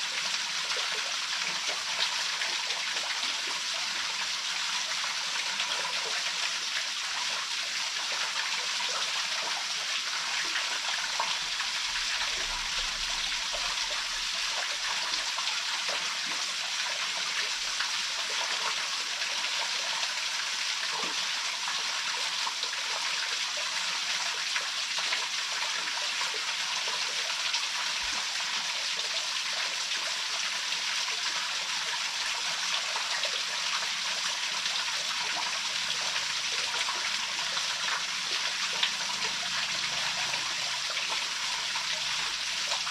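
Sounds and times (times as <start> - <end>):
waterfall pouring into pool: 0.0 - 42.9.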